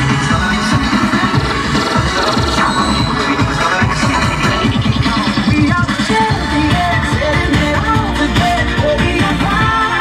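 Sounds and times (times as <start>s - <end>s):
electronic dance music over loudspeakers: 0.0s - 10.0s.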